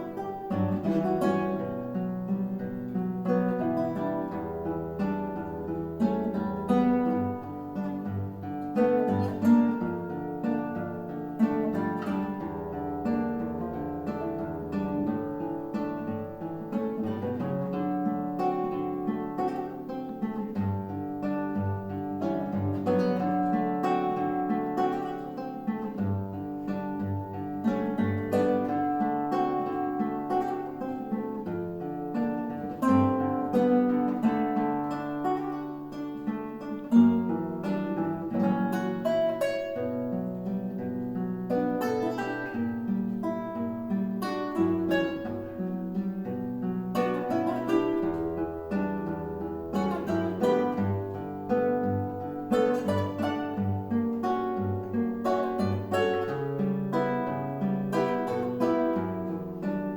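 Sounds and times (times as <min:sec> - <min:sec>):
guitar duet: 0:00.0 - 0:59.9.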